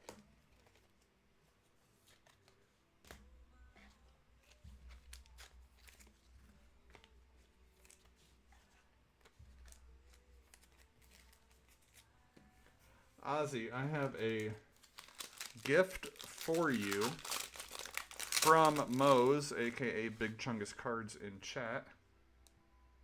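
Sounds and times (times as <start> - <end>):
trading cards and wrappers rustling: 0.0 - 21.1.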